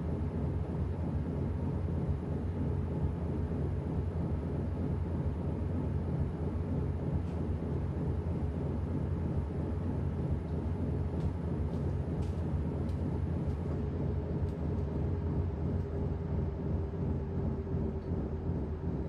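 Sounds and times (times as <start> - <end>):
washing machine rumble and hum: 0.0 - 19.0.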